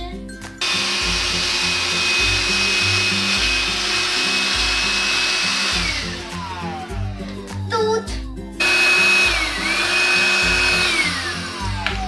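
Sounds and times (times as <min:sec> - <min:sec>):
background music: 0:00.0 - 0:12.0
stick vacuum whining: 0:00.6 - 0:07.6, 0:08.6 - 0:12.0.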